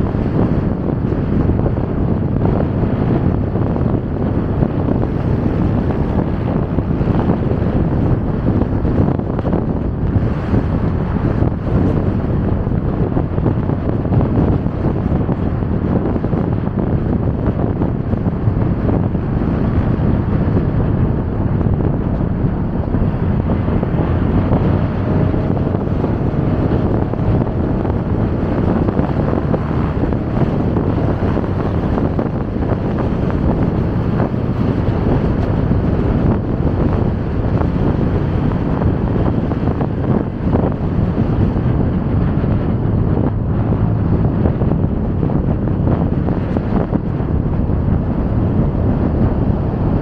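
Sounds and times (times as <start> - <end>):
city traffic: 0.0 - 50.0
motorcycle ride rumble: 0.0 - 50.0
wind rushing on microphone: 0.0 - 50.0.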